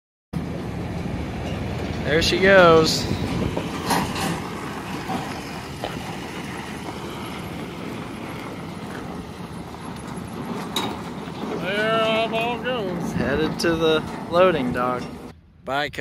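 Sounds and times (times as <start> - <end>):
truck engine rumbling: 0.4 - 16.0.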